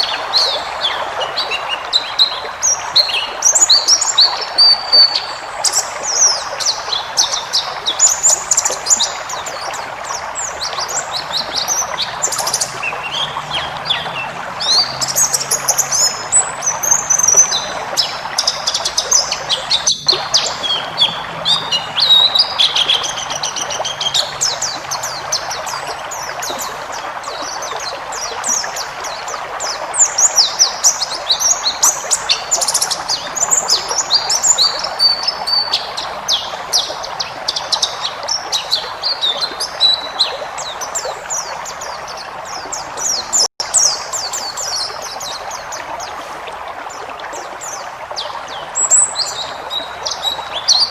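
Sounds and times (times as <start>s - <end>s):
bird singing high chirps and trills: 0.0s - 45.9s.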